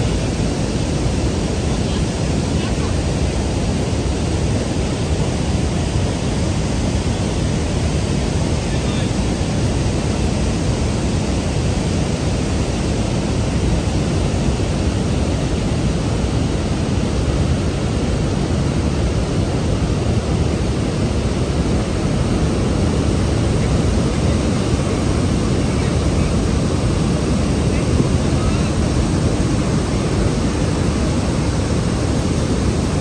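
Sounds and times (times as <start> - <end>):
water rushing through spillway: 0.0 - 33.0.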